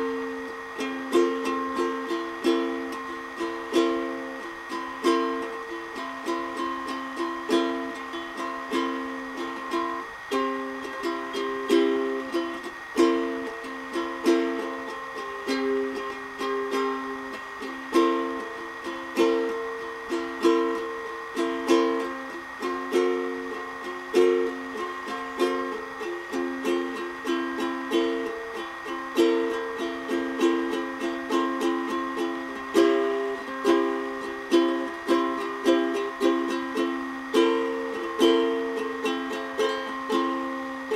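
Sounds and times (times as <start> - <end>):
ukulele chords: 0.0 - 40.9.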